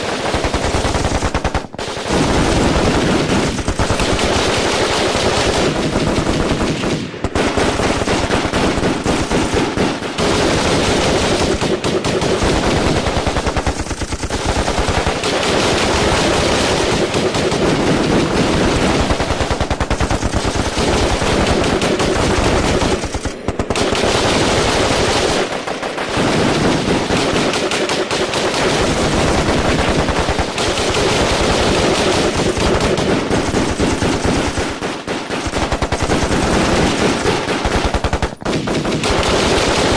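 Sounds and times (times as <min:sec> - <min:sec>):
automatic gunfire: 0:00.0 - 0:39.9.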